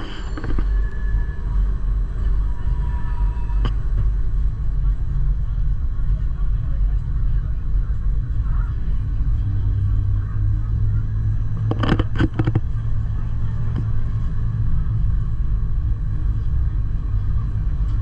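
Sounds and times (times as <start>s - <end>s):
train running with low rumble: 0.0s - 18.0s.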